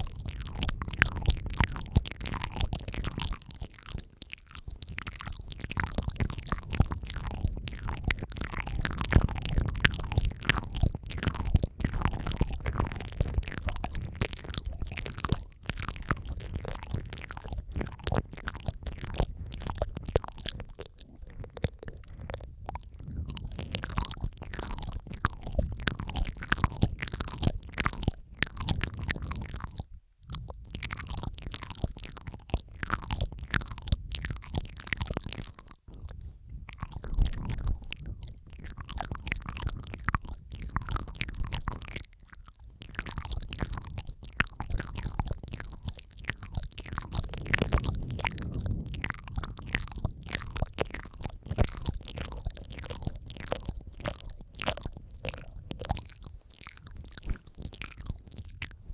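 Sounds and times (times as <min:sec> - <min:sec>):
wet mouth clicks and smacks: 0:00.0 - 0:58.9.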